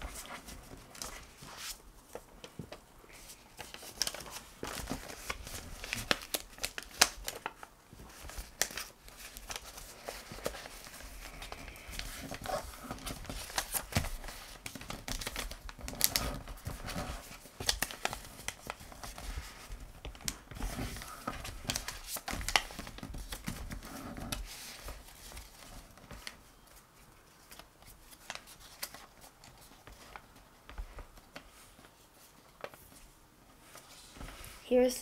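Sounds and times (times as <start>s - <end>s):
paper rustling and crinkling: 0.0s - 34.9s.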